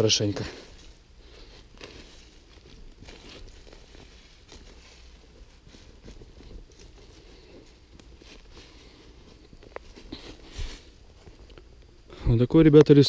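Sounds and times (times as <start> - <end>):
boots scuffing soil and leaves: 0.0 - 11.5.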